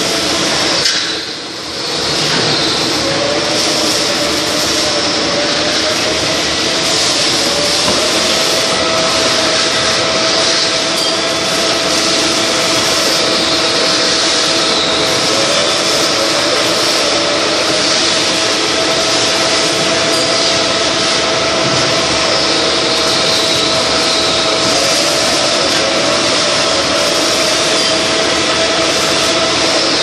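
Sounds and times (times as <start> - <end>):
milling machine cutting metal: 0.0 - 30.0.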